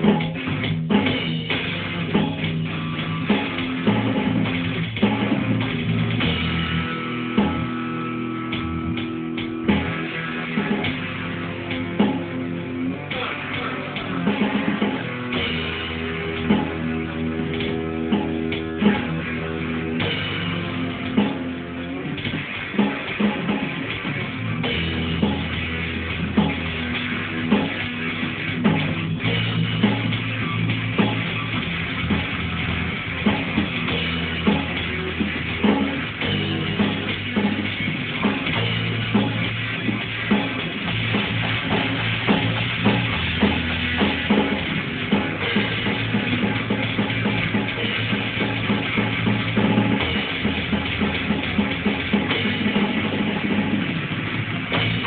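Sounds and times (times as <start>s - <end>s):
distorted electric guitar: 0.0s - 55.0s
drum kit hits: 0.0s - 55.0s.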